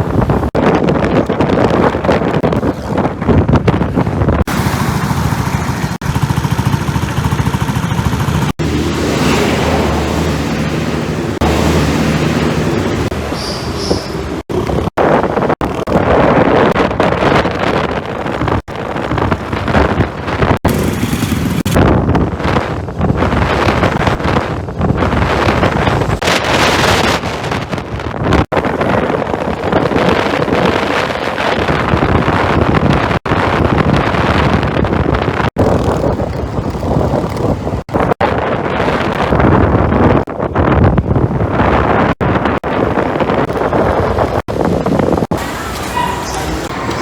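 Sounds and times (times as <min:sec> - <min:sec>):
wind rushing over microphone: 0:00.0 - 0:47.0.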